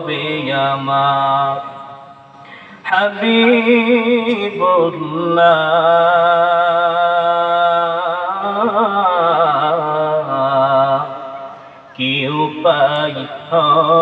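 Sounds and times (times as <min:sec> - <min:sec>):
man singing devotional song: 0:00.0 - 0:14.0.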